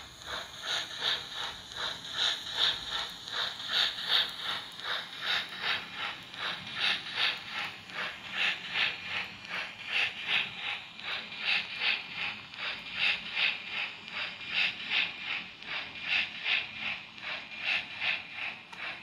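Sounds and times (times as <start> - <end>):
model steam locomotive running: 0.0 - 19.0.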